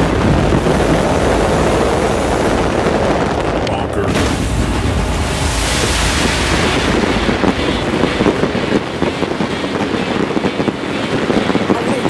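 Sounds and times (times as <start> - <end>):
deep fireworks rumble: 0.0 - 12.0
fireworks bursting and crackling: 0.0 - 12.0.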